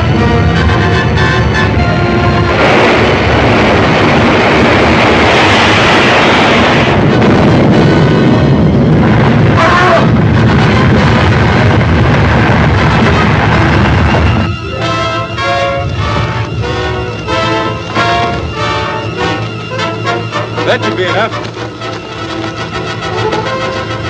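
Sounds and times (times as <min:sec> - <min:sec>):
rushing roar: 0:00.0 - 0:24.0.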